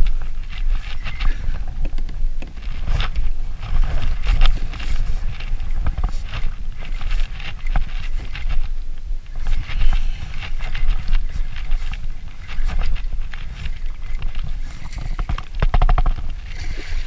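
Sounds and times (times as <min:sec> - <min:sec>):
water splashing against kayak: 0:00.0 - 0:17.0
wind rumbling on microphone: 0:00.0 - 0:17.0.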